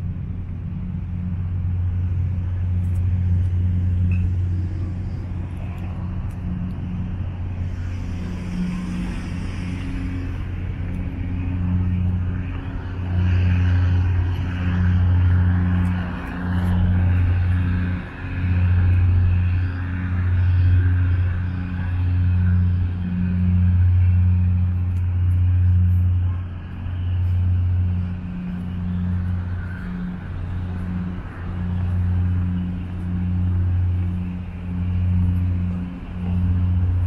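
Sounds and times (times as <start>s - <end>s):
low mechanical hum with hiss: 0.0s - 37.0s.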